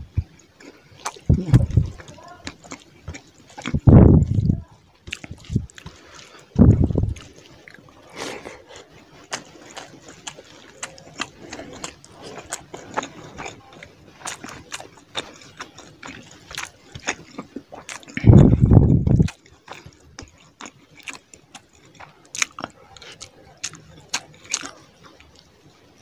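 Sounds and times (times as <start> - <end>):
wet chewing and lip smacking: 0.0 - 26.0.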